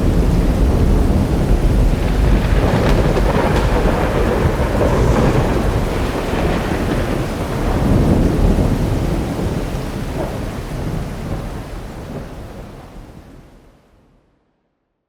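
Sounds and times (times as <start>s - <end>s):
rolling thunder rumble: 0.0s - 13.3s
steady rain: 0.0s - 14.1s.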